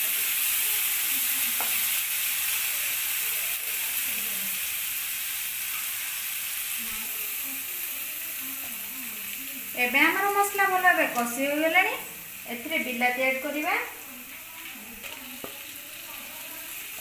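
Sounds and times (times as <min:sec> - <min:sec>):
spice paste sizzling in hot oil: 0:00.0 - 0:17.0.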